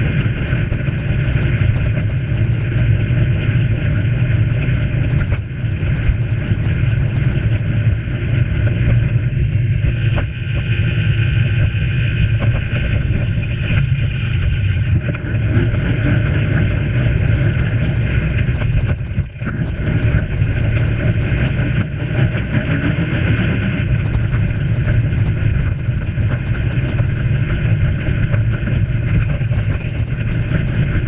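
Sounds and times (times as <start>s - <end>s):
wind rumble: 0.0s - 31.0s.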